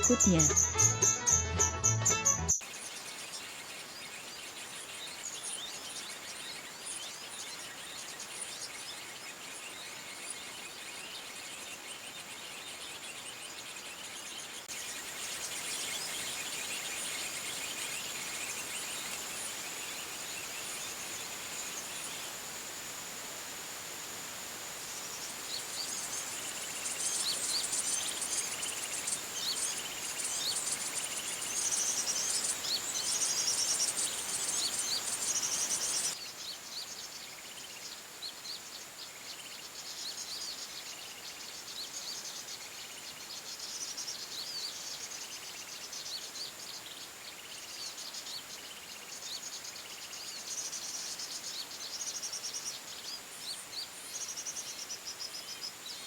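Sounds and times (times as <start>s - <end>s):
small birds chirping: 0.0s - 1.3s, 2.3s - 56.0s.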